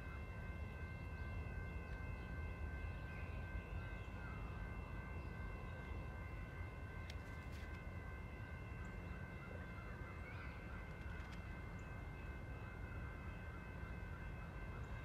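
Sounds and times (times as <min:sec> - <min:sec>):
distant locomotive air horn: 0:00.0 - 0:15.0.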